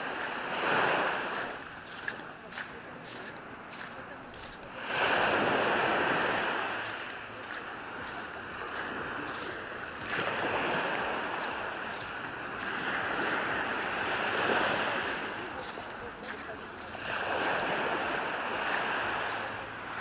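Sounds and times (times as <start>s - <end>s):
sea surf washing onto beach: 0.0s - 20.0s.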